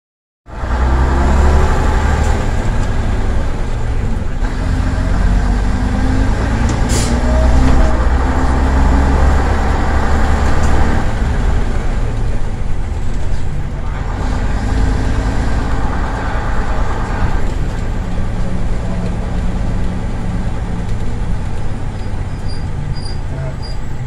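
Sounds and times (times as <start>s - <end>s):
bus diesel engine running: 0.5s - 24.0s.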